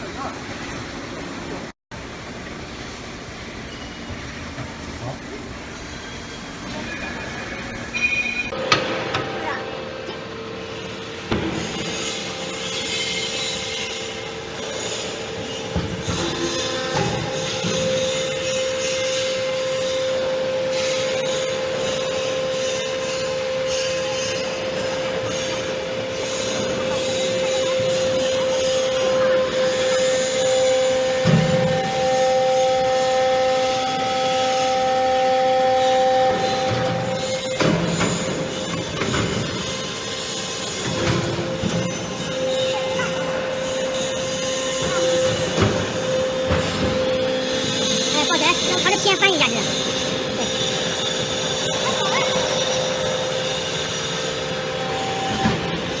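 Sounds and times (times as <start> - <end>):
scrap metal baler whining: 10.2 - 56.0.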